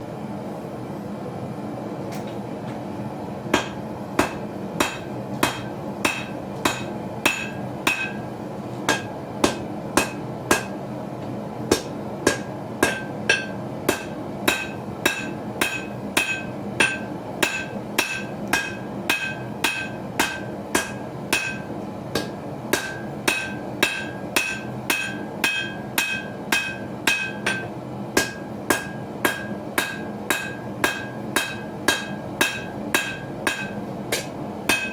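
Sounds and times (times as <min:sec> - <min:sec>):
steady background noise: 0:00.0 - 0:34.9
hammer striking steel on anvil: 0:03.5 - 0:08.3, 0:08.9 - 0:10.8, 0:11.7 - 0:34.9.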